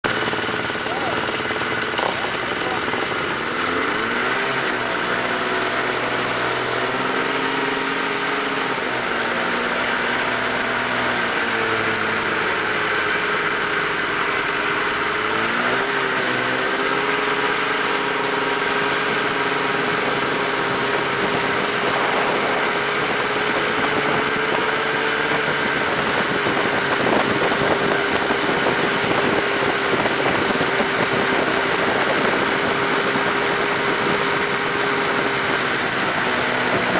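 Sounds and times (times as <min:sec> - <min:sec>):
buggy engine revving: 0:00.0 - 0:36.9.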